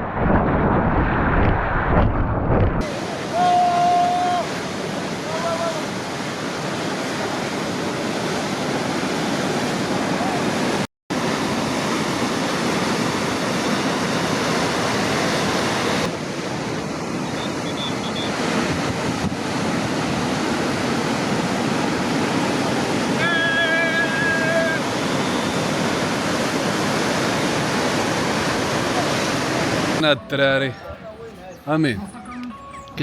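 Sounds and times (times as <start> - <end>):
ocean surf breaking: 0.0 - 32.2.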